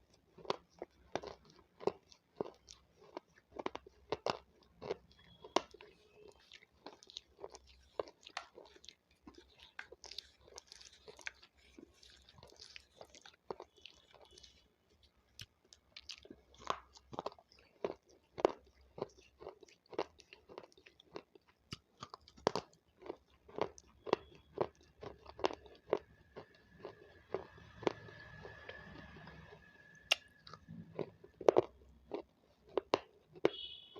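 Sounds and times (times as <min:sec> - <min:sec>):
crisp wet chewing crunches: 0:00.0 - 0:33.7.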